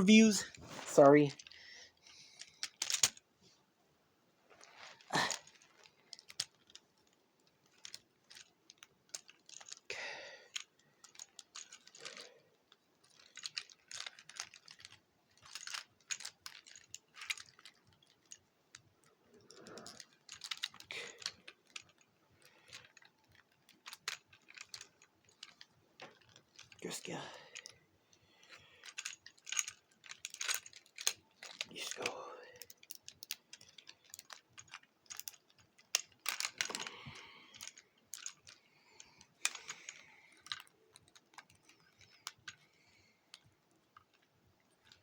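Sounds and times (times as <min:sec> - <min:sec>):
soft rustles: 0:00.0 - 0:03.8, 0:04.4 - 0:09.9, 0:10.5 - 0:45.0
plastic toy parts clicking and snapping: 0:02.4 - 0:03.2, 0:05.3 - 0:09.9, 0:10.5 - 0:27.8, 0:28.8 - 0:45.0.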